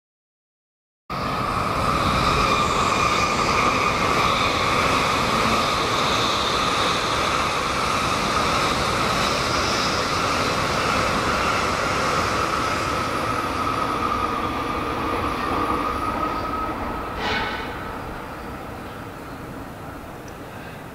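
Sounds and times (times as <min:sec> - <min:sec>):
high train whine: 0:01.1 - 0:20.9
train wheels rushing on rail: 0:01.1 - 0:20.9.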